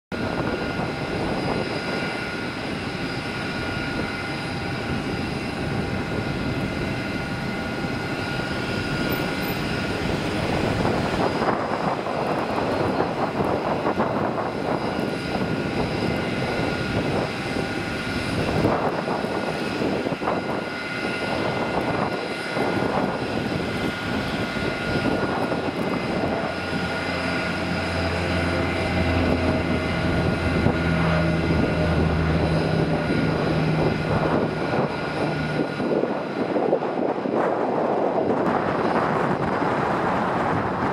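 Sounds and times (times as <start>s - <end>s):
turboprop engines droning: 0.1s - 40.9s.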